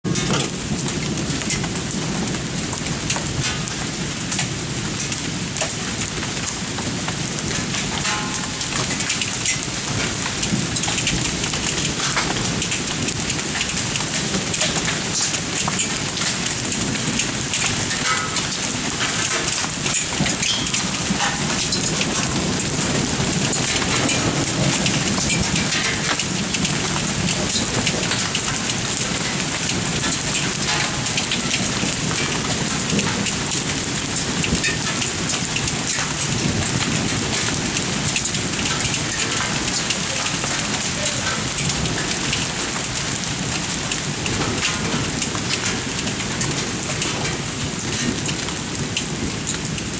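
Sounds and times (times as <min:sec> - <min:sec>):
hailstones ticking: 0:00.0 - 0:49.9
heavy rain: 0:00.0 - 0:49.9.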